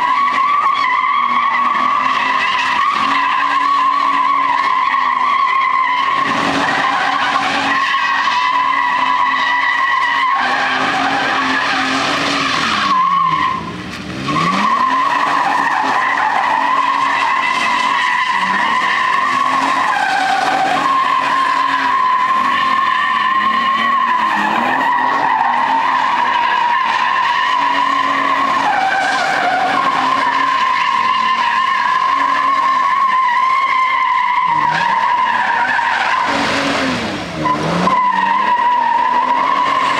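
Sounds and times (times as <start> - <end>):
tyres squealing: 0.0 - 39.9
engine at high revs: 1.2 - 39.9.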